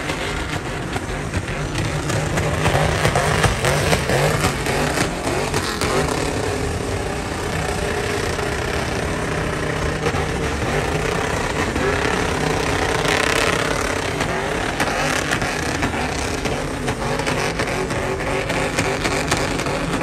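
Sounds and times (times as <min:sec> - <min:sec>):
pickup truck engines revving high: 0:00.0 - 0:20.0
tyres spinning on dirt: 0:00.0 - 0:20.0.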